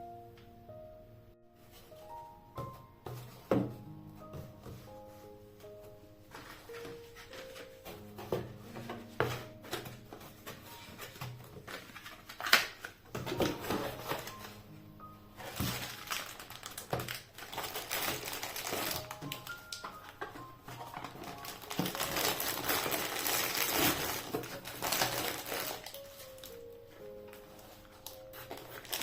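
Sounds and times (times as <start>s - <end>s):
soft background music: 0.0s - 29.0s
crinkling and rustling: 1.6s - 29.0s.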